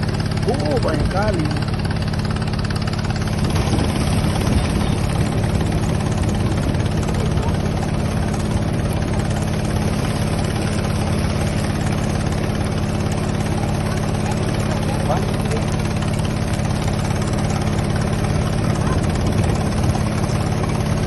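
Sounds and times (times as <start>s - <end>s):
boat engine running steadily: 0.0s - 21.0s.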